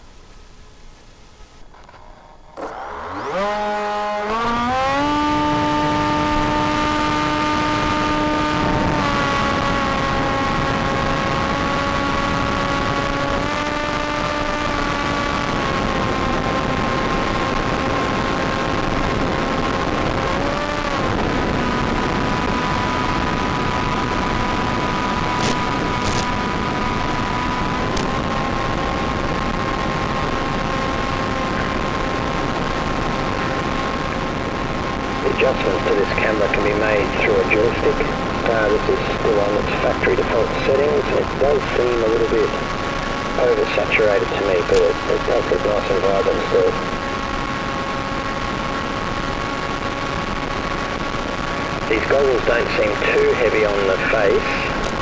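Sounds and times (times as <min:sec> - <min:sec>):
electric motor whine: 0:01.3 - 0:55.0.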